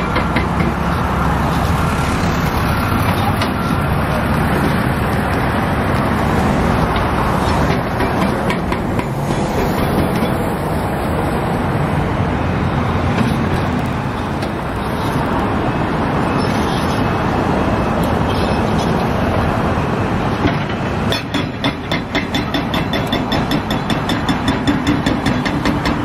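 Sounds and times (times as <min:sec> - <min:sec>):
truck engine drone: 0:00.0 - 0:26.0.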